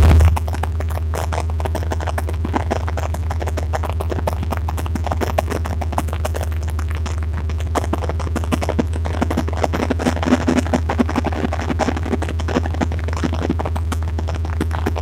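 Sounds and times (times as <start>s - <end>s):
dense rapid crackling: 0.0s - 15.0s.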